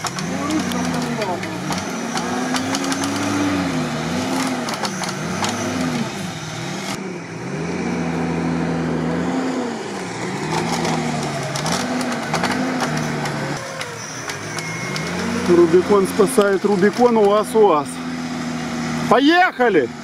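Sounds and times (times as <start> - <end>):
off-road engine revving: 0.0 - 20.0.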